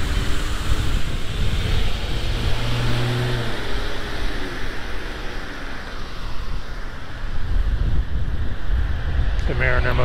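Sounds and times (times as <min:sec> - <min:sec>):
road traffic: 0:00.0 - 0:10.0
vehicle engine humming: 0:00.0 - 0:10.0
wind rumbling on microphone: 0:00.0 - 0:10.0.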